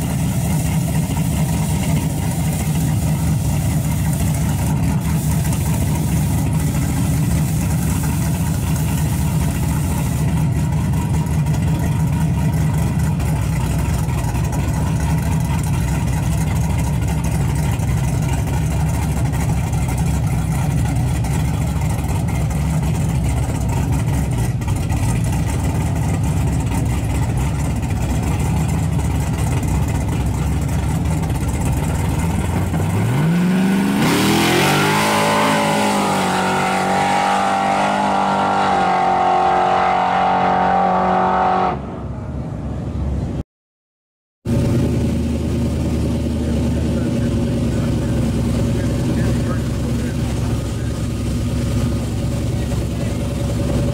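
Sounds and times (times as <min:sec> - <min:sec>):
truck engine idling and revving: 0:00.0 - 0:43.4, 0:44.5 - 0:53.9.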